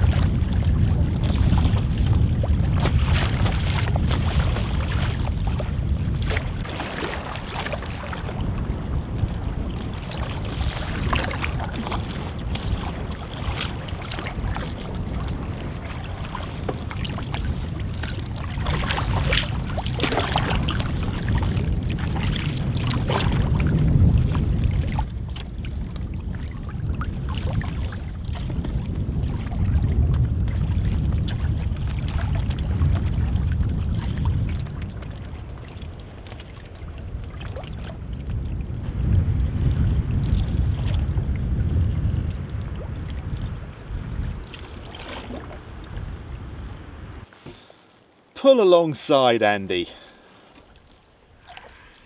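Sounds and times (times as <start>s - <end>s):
wind buffeting microphone: 0.0s - 47.7s
water splashing against canoe hull: 0.0s - 49.3s, 49.9s - 52.0s.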